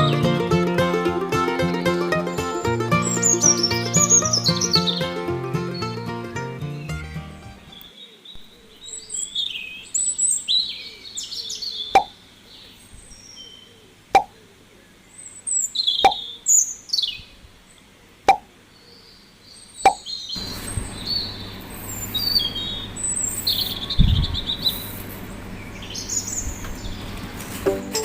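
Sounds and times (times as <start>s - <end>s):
steady outdoor hiss: 0.0s - 28.0s
birds chirping: 1.5s - 27.6s.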